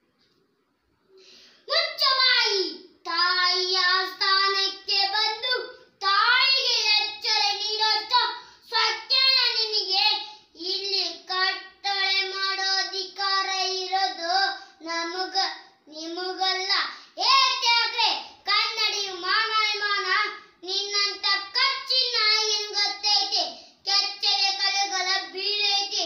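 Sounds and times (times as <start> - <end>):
child singing: 1.9 - 26.0.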